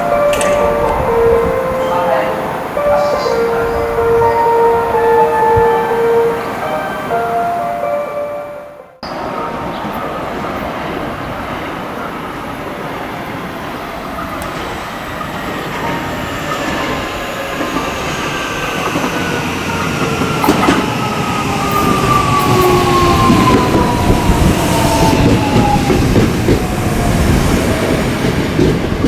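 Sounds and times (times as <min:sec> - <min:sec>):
train rail noise: 0:00.0 - 0:29.0.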